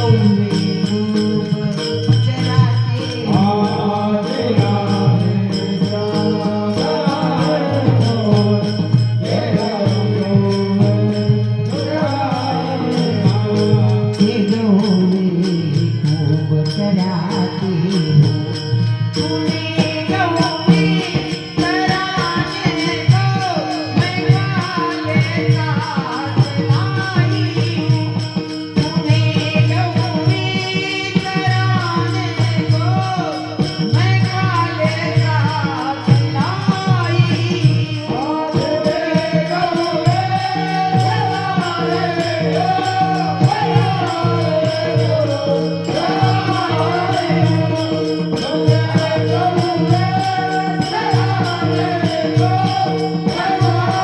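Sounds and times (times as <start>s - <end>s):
jingling hand percussion: 0.0s - 54.0s.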